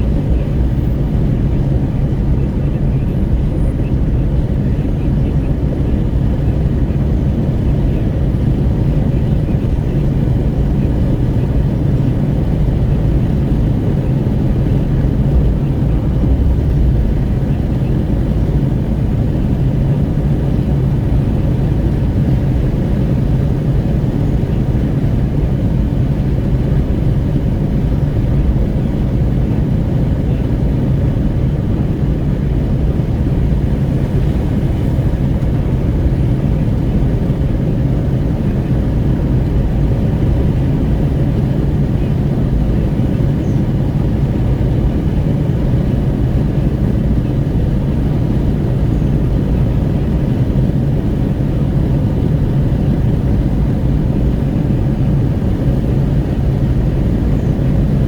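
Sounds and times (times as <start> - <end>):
car engine drone: 0.0 - 58.0
wind rushing at car window: 0.0 - 58.0.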